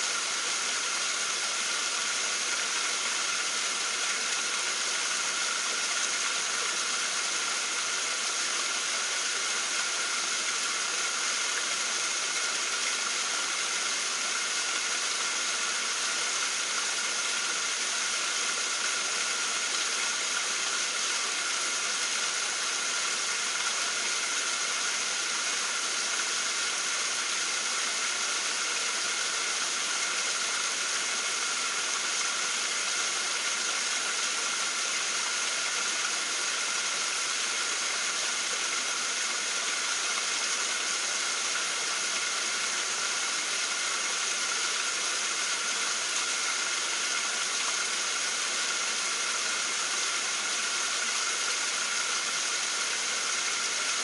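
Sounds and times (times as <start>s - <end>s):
waterfall rushing water: 0.0s - 54.0s.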